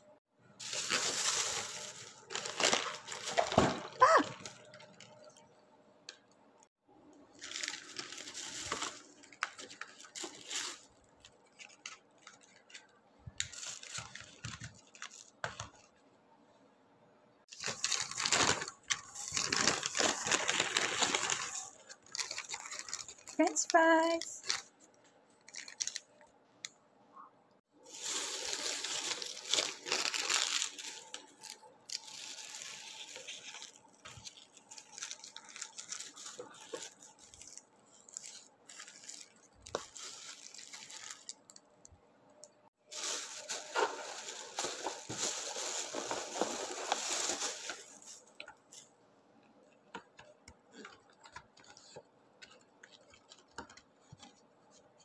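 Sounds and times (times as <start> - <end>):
plastic bag and paper crinkling: 0.6 - 5.4, 7.2 - 16.0, 17.5 - 26.2, 27.8 - 41.8, 42.8 - 48.9, 49.9 - 55.0.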